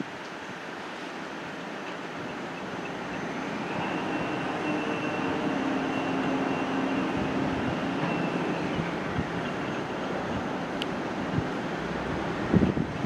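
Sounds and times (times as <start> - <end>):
freight train wagons rumbling: 0.0 - 13.0.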